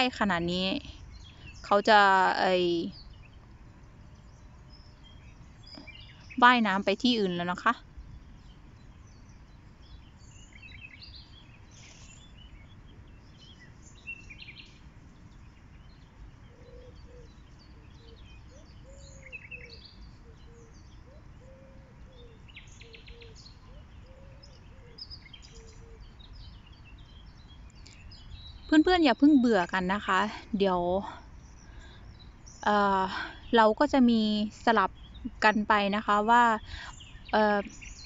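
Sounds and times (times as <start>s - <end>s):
birds chirping: 0.0s - 38.0s
low outdoor background noise: 0.0s - 38.0s
short low curved bird calls: 0.0s - 38.0s.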